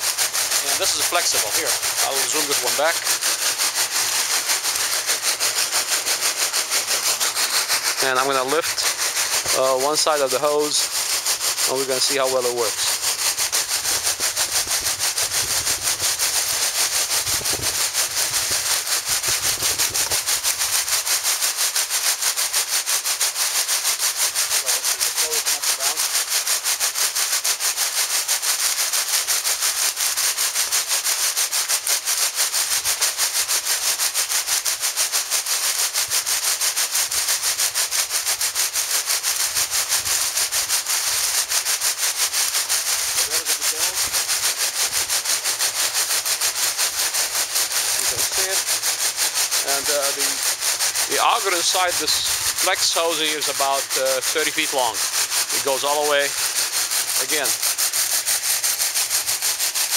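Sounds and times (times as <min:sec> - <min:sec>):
auger feeding coal rasping: 0:00.0 - 0:59.9.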